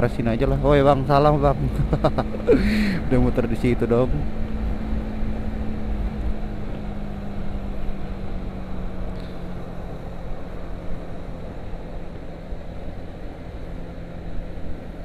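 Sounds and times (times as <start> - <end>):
motorcycle engine cruising: 0.0 - 15.0
wind and road noise: 0.0 - 15.0.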